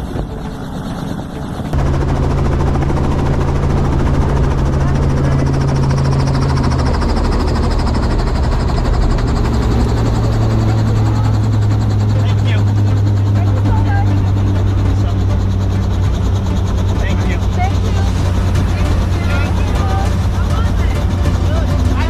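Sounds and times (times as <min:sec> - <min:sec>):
helicopter engine and rotor drone: 0:00.0 - 0:22.0
low hum: 0:00.0 - 0:22.0.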